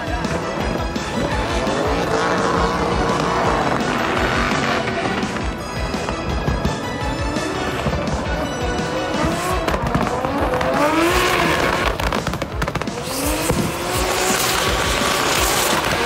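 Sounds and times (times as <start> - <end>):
car engines revving: 0.0 - 16.0
exhaust pops crackling: 0.2 - 16.0.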